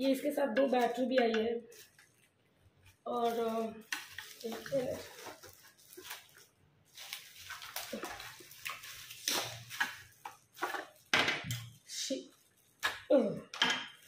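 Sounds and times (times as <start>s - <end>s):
plastic wrapping crinkling: 0.8s - 14.0s.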